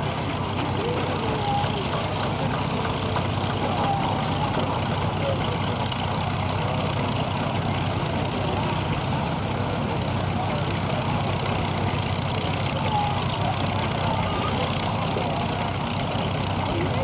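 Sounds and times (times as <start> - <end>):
engines rumbling: 0.0 - 17.0
faint distant voices: 0.0 - 17.0.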